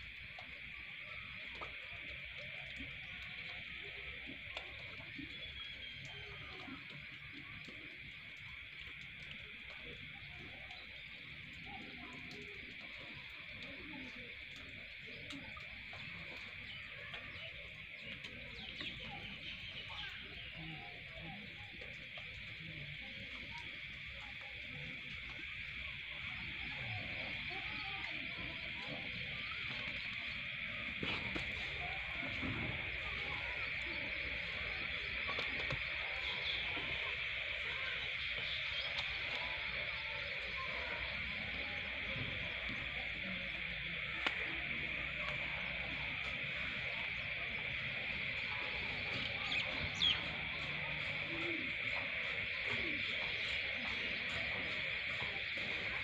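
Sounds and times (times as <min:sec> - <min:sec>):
insects droning: 0:00.0 - 0:56.0
faint bird chirps: 0:00.1 - 0:56.0
high-pitched chorus of night creatures: 0:00.4 - 0:56.0.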